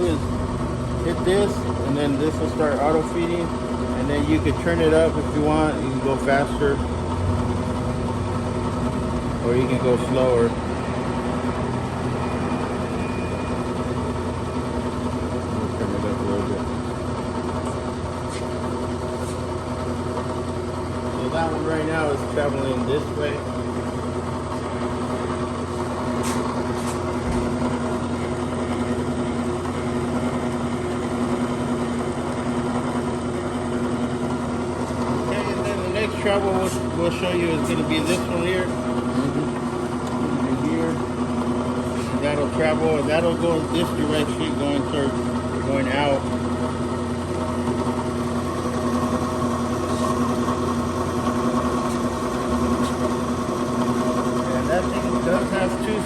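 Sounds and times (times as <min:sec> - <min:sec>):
brake lathe motor humming: 0:00.0 - 0:56.0.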